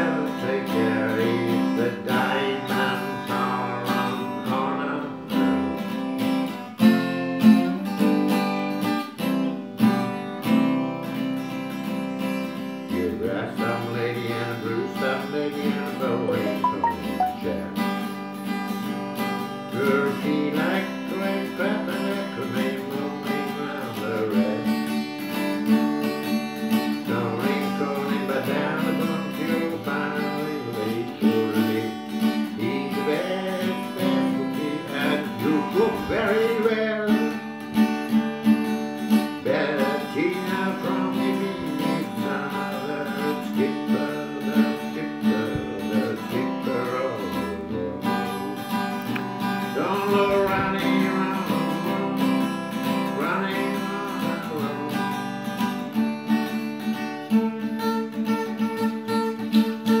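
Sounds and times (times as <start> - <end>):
acoustic guitar playing: 0.0 - 60.0.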